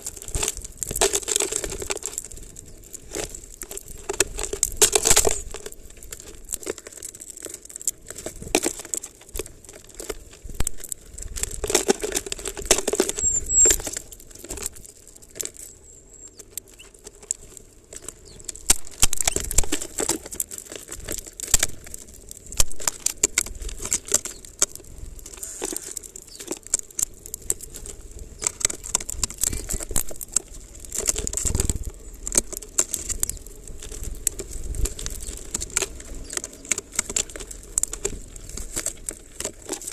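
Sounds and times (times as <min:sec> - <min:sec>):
beaks cracking seeds: 0:00.0 - 0:39.9
rustling of seed husks: 0:00.0 - 0:39.9.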